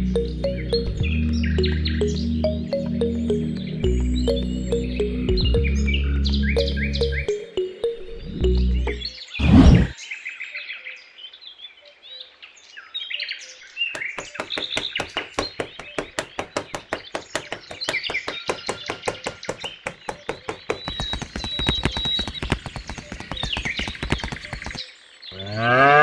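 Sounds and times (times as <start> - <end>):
birds chirping: 0.0 - 10.5, 12.8 - 26.0.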